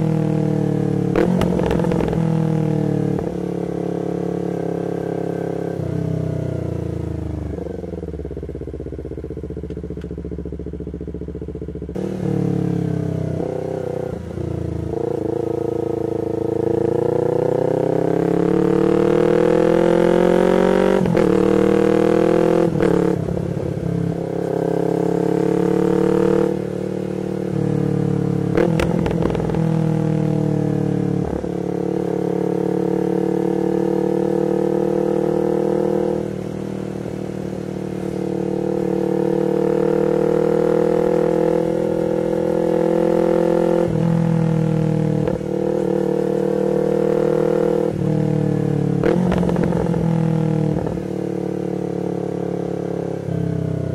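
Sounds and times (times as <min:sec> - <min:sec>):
motorcycle engine shifting gears: 0:00.0 - 0:53.9.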